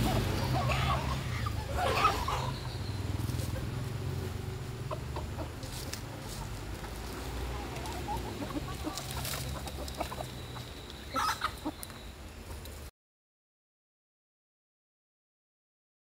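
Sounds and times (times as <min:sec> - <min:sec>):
birds clucking: 0:00.0 - 0:12.9.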